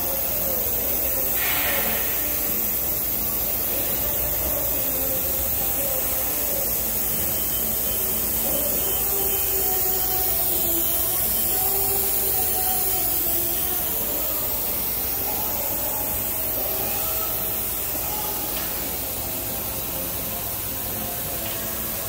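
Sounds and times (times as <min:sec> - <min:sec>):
machine hiss with humming tones: 0:00.0 - 0:22.0.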